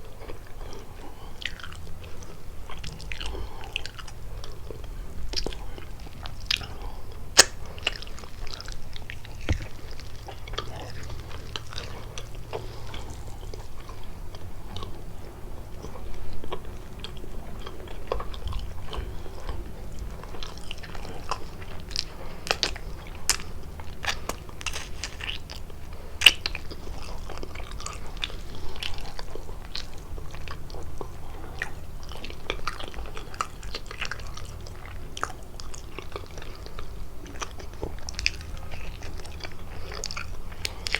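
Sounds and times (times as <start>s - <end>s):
chewing pastry: 0.0s - 40.9s.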